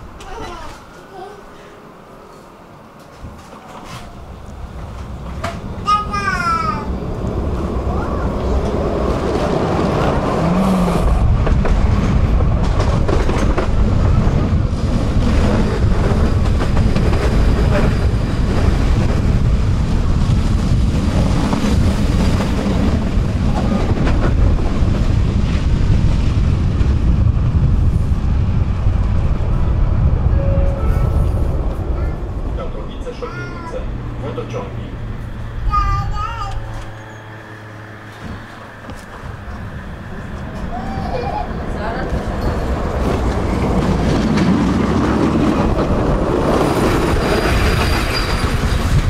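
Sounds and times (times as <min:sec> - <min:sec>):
tram wheels rumbling on rails: 0:00.0 - 0:49.0
rail clicks: 0:02.3 - 0:27.5, 0:28.7 - 0:49.0.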